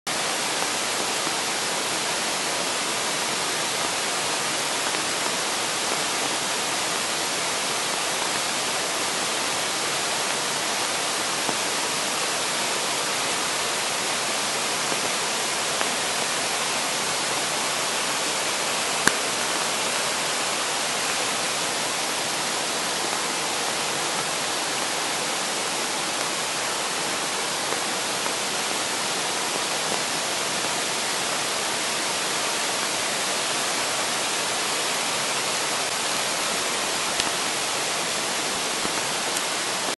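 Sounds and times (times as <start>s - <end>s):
stream rushing over boulders: 0.1s - 39.9s.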